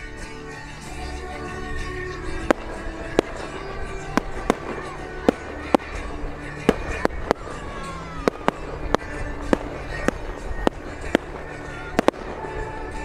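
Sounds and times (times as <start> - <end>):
fireworks bangs and pops: 0.0 - 13.0
music playing: 0.0 - 13.0.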